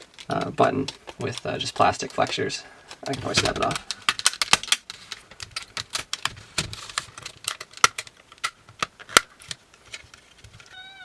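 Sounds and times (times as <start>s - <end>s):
plastic clicking and cracking: 0.0s - 10.8s.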